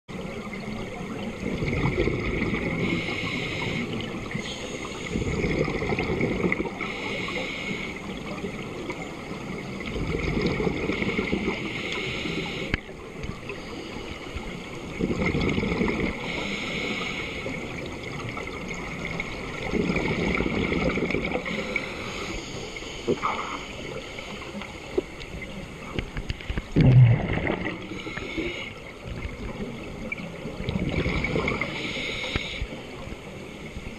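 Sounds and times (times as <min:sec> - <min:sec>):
exhaled bubbles gurgling underwater: 0:00.1 - 0:33.9.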